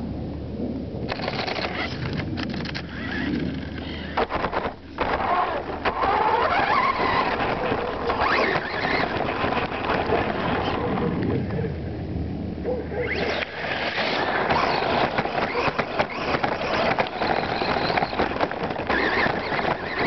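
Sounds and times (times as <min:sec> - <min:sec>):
electric motor whining: 0:01.1 - 0:11.7, 0:12.9 - 0:20.0
tyres and chassis clattering over dirt: 0:01.1 - 0:11.7, 0:13.0 - 0:20.0.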